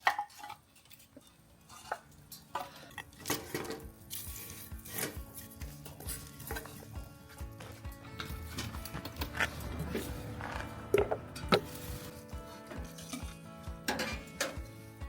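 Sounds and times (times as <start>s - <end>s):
soft music: 1.6s - 15.0s.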